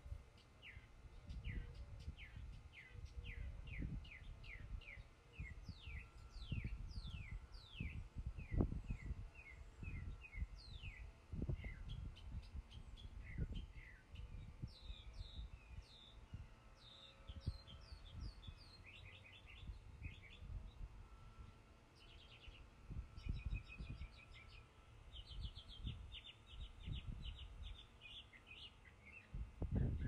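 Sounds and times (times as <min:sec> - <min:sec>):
wind rumbling on microphone: 0:00.0 - 0:21.2, 0:22.0 - 0:27.8, 0:29.1 - 0:30.0
songbirds chirping: 0:00.0 - 0:30.0.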